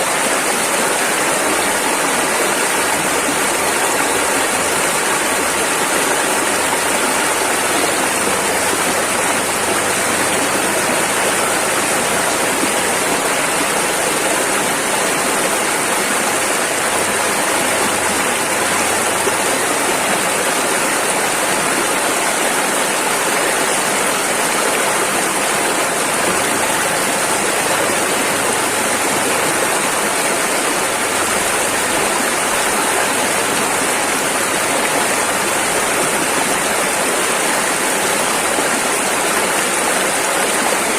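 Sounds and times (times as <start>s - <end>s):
rushing river water: 0.0s - 40.9s.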